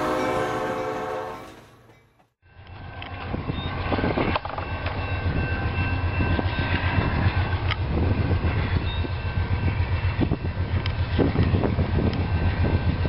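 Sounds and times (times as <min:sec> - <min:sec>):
diesel locomotive engine pulsing: 0:00.0 - 0:13.0.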